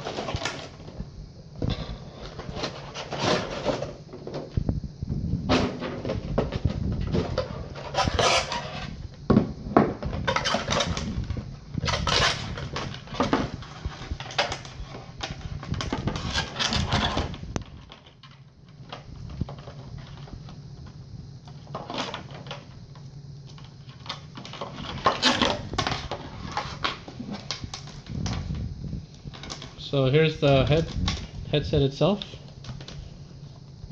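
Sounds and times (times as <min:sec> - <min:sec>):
packaging rustling and crinkling: 0:00.0 - 0:04.7, 0:09.8 - 0:22.8, 0:23.5 - 0:33.9.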